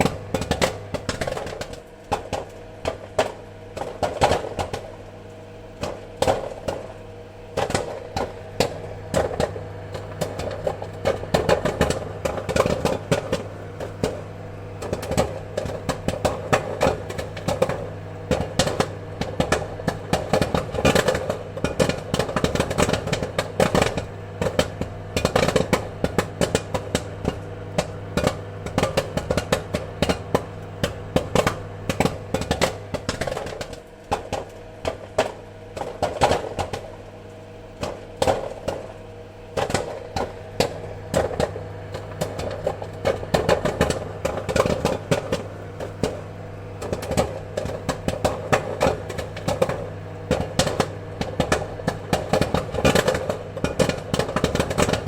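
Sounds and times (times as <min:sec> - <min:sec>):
popcorn popping: 0:00.0 - 0:55.0.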